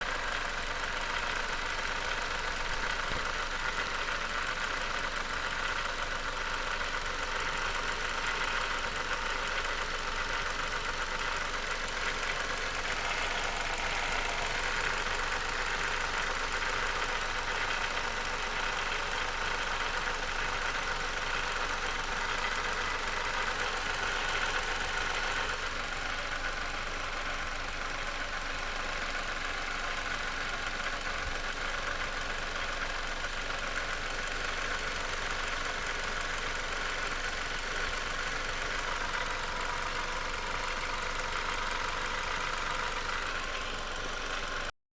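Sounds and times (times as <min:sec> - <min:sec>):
car engine rattling: 0:00.0 - 0:44.7.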